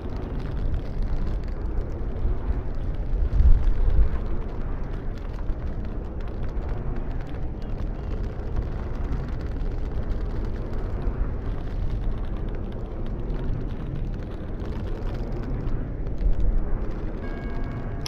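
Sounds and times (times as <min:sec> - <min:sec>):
strong wind rumbling: 0:00.0 - 0:18.0.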